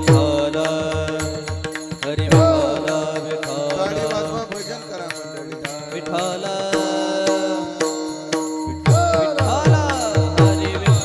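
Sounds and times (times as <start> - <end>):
sharp percussion strikes: 0.0 - 11.0.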